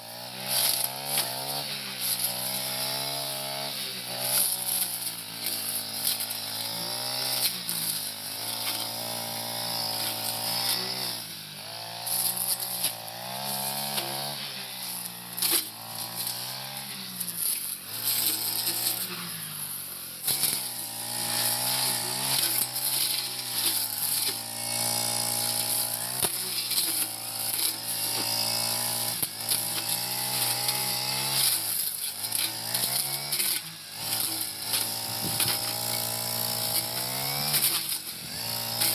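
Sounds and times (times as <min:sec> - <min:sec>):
brush cutter engine revving: 0:00.0 - 0:38.9.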